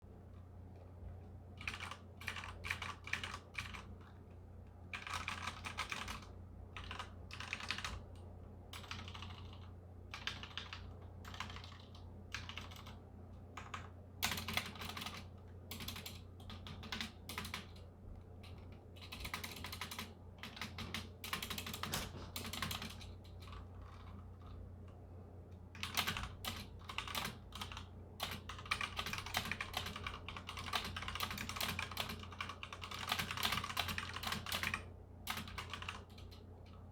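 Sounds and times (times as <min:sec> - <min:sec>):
faint low hum: 0:00.0 - 0:36.9
mechanical keyboard typing: 0:01.6 - 0:04.2, 0:04.9 - 0:13.0, 0:13.6 - 0:17.8, 0:18.4 - 0:24.6, 0:25.8 - 0:36.8.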